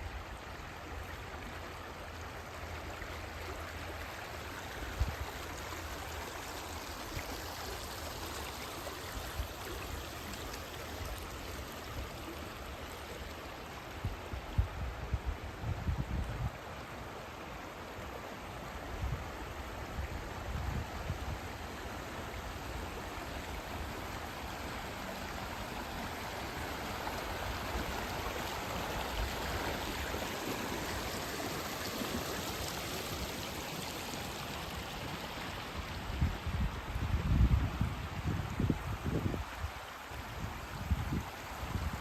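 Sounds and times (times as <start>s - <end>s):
river water rushing: 0.0s - 15.6s, 16.5s - 42.0s.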